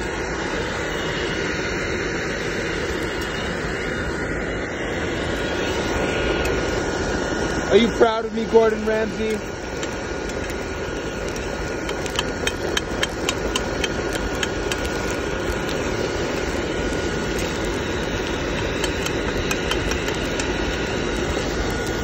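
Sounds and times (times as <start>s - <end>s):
faint steady whine: 0.0s - 22.0s
forge air blower rushing: 0.0s - 22.0s.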